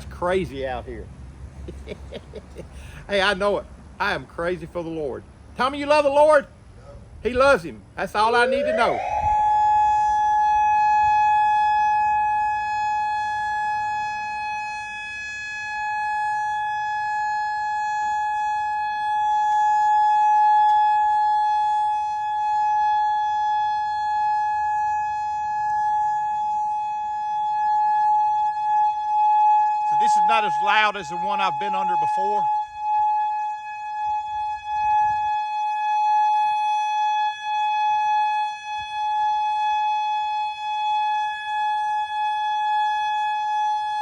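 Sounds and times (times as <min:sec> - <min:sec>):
warning siren steady tone: 0:06.8 - 0:44.0.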